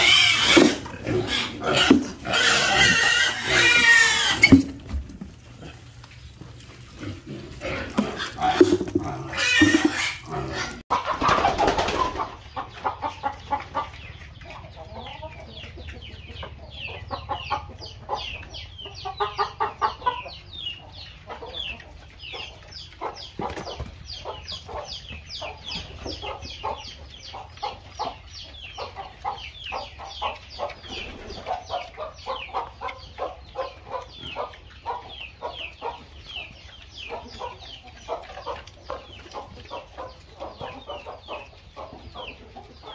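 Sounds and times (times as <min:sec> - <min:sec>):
chickens clucking: 0:00.0 - 0:42.9
chicks peeping: 0:00.0 - 0:42.9
rough animal noise: 0:00.0 - 0:42.9.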